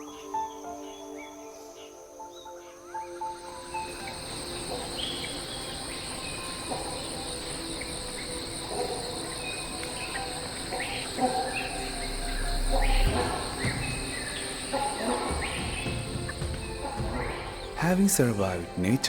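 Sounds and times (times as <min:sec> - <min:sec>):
crickets and insects chorus: 0:00.0 - 0:19.0.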